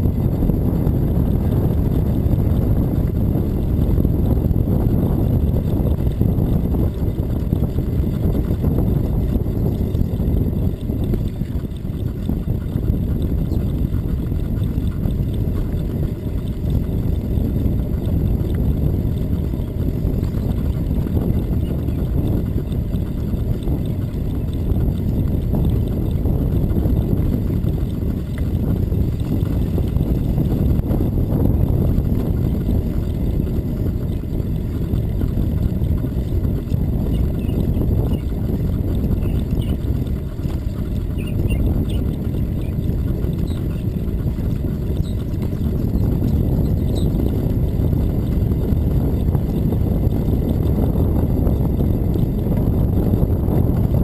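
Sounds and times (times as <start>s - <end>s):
bicycle tyre road noise: 0.0s - 54.0s
wind buffeting microphone: 0.0s - 54.0s.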